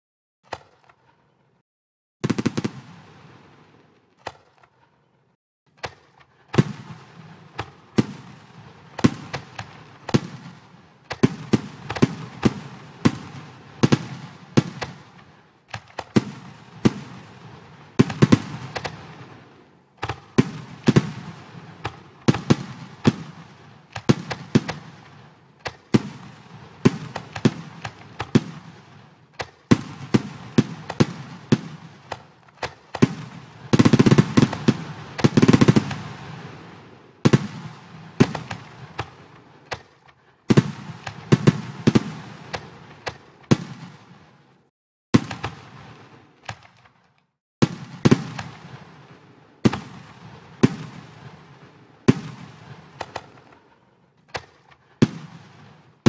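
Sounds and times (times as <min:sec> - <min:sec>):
simulated fireworks bangs crackling: 0:02.2 - 0:05.0, 0:05.7 - 0:56.0.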